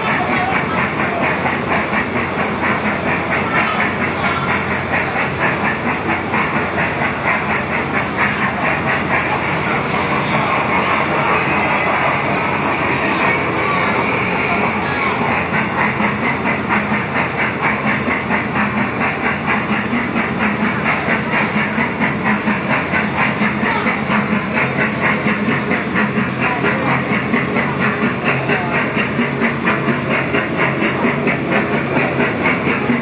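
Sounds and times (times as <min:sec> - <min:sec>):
kiddie ride train chugging: 0:00.0 - 0:33.0.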